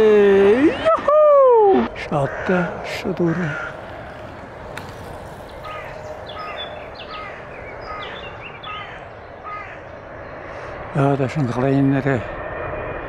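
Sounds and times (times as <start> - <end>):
bird calling: 0.0 - 10.8
steady low rush: 0.0 - 13.0.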